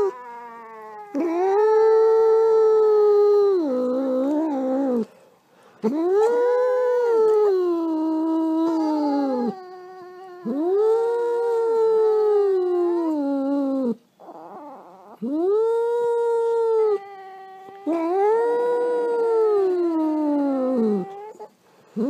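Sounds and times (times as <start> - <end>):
small dog howling: 0.0 - 5.1, 5.9 - 22.0.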